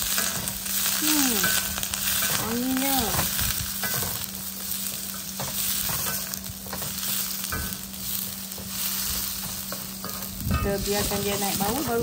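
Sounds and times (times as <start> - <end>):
steady low hum: 0.0 - 12.0
vegetables sizzling in hot oil: 0.0 - 12.0.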